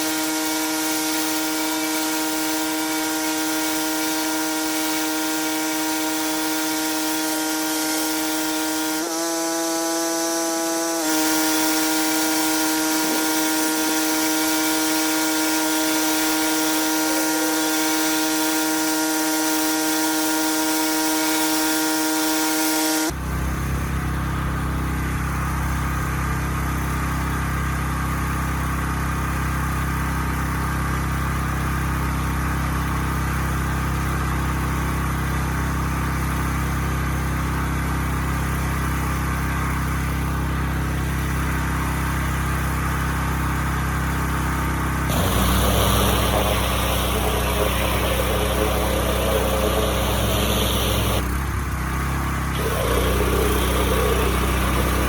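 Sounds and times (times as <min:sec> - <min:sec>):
engine drone: 0:00.0 - 0:55.0
pressure washer whine: 0:00.0 - 0:55.0.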